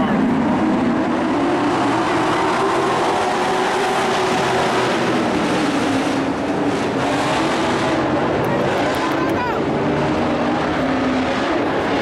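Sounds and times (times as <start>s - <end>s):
race truck engines roaring: 0.0s - 12.0s.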